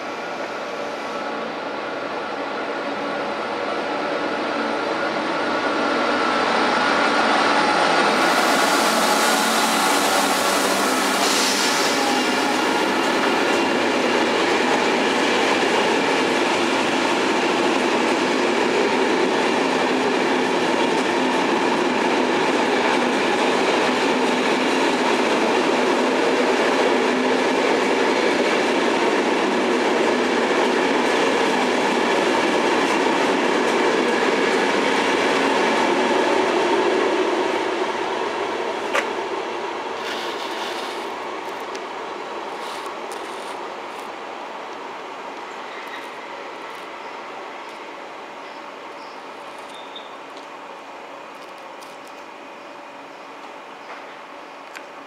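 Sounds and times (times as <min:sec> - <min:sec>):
train wheels rushing on rail: 0:00.0 - 0:55.0.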